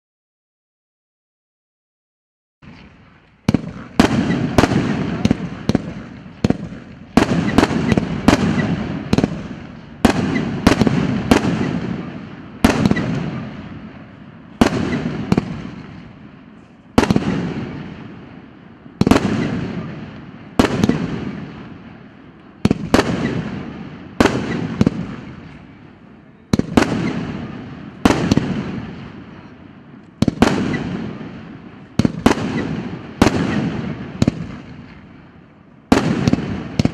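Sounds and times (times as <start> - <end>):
fireworks bangs: 2.6 - 36.9.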